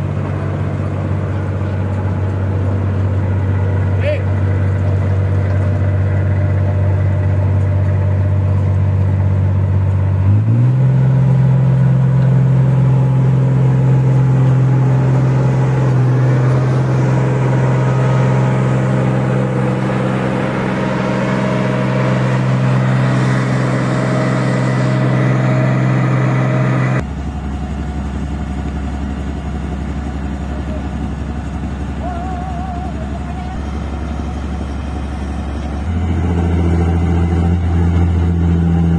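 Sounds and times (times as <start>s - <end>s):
deeper engine hum: 0.0s - 38.9s
diesel engine running: 0.0s - 38.9s.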